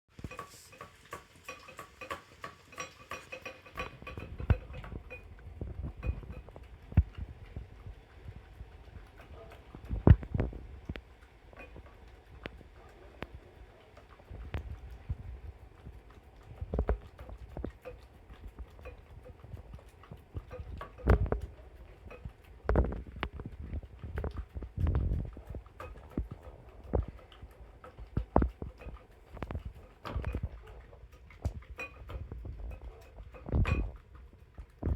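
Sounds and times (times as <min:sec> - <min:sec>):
dog eating from a bowl: 0:00.1 - 0:34.9.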